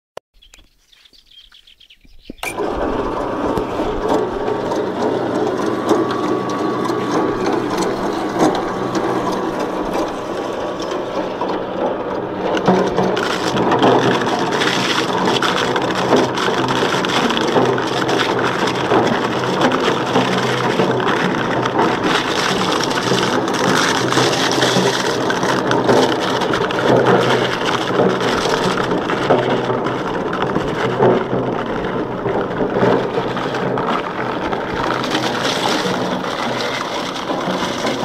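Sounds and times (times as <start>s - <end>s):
apples grinding with rattling crunch: 0.4s - 38.0s
electric fruit mill motor hum: 2.4s - 38.0s.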